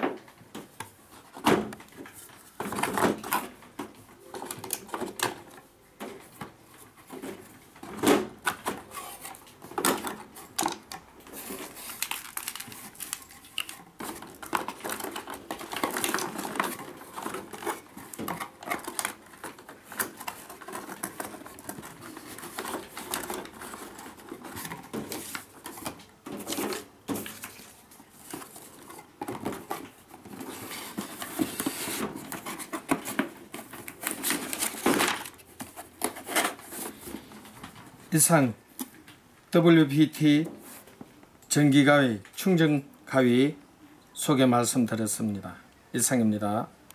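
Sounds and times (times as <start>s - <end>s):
plastic and cardboard rustling: 0.0s - 39.1s.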